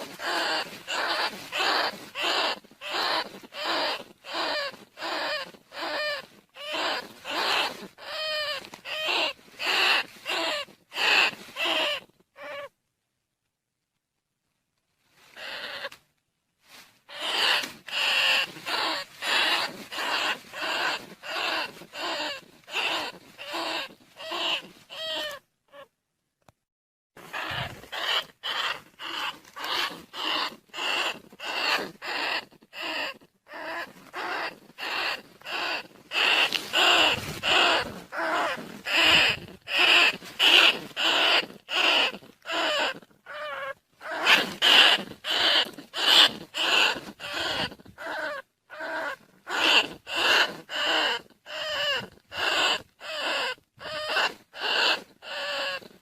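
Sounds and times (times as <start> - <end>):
shrill rat squeaks: 0.0 - 12.7, 15.3 - 16.0, 17.1 - 25.9, 27.3 - 56.0.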